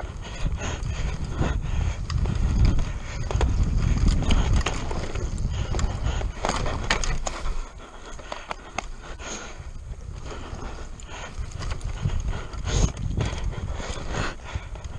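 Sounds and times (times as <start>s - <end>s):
bike frame and chain rattling: 0.0s - 14.9s
tyres on loose dirt: 0.0s - 14.9s
wind rumble on microphone: 0.0s - 14.9s.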